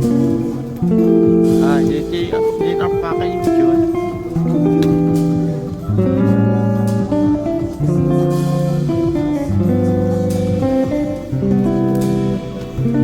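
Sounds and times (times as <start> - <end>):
guitar chords plucked and strummed: 0.0 - 13.0.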